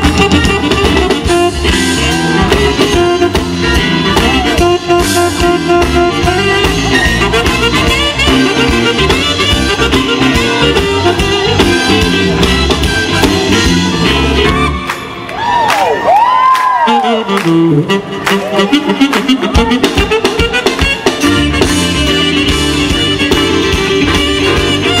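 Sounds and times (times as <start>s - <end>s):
alto saxophone melody: 0.0s - 15.3s, 16.7s - 25.0s
drum kit beat: 0.0s - 15.3s, 16.6s - 25.0s
electric bass: 0.0s - 15.5s, 16.4s - 25.0s.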